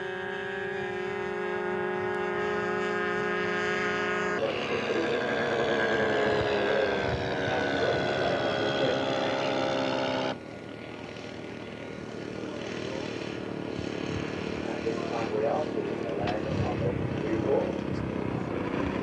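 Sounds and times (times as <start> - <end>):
model airplane engine buzzing: 0.0 - 19.0.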